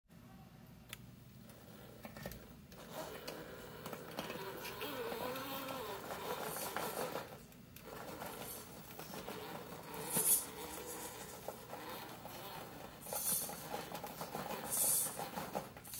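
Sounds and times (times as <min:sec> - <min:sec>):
rc car motor whining: 0:01.4 - 0:15.9
tyres scraping on wooden steps: 0:02.2 - 0:15.9.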